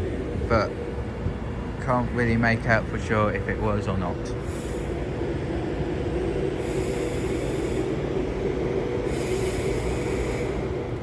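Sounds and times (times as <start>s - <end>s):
train engine droning: 0.0s - 11.0s.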